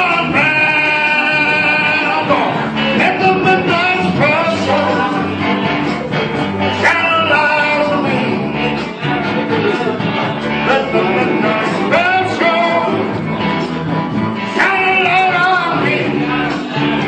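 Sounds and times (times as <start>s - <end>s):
rock and roll music with guitar: 0.0s - 17.0s.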